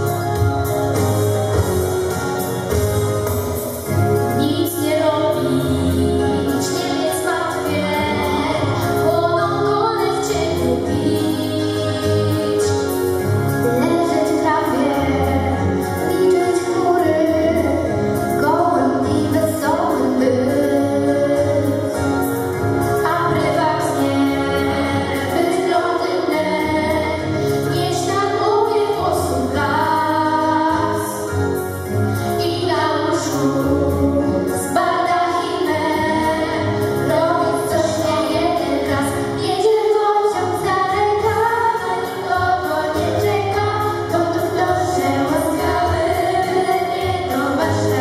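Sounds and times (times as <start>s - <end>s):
girls singing into microphones: 4.3s - 22.2s, 23.0s - 31.4s, 32.3s - 48.0s.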